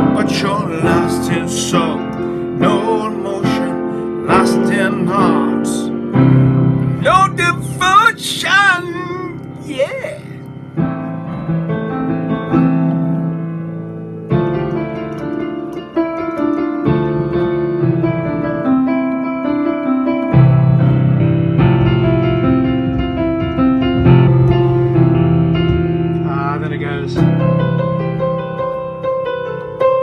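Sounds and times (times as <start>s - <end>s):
piano playing held chords: 0.0s - 30.0s.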